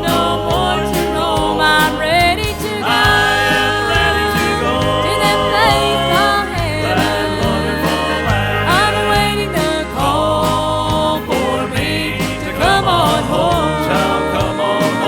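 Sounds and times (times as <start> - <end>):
country gospel song: 0.0 - 15.0.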